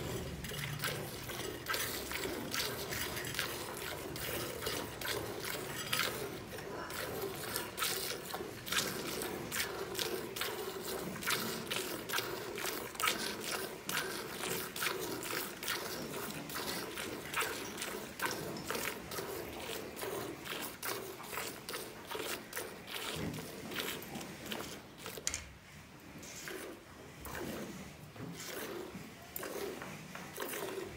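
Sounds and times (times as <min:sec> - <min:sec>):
milk squirting into bucket: 0:00.0 - 0:30.9.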